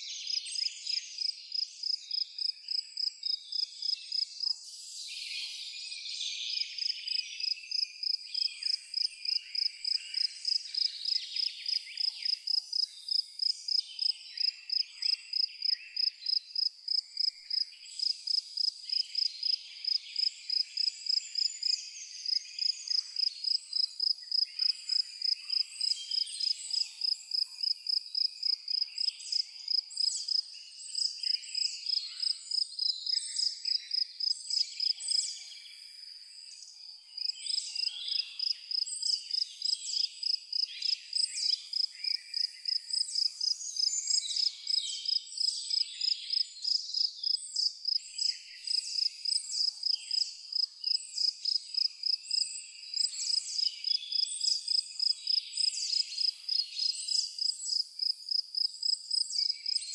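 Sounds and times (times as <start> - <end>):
songbirds chirping and twittering: 0.0 - 59.9
cricket chirping: 0.3 - 5.9, 6.5 - 59.9.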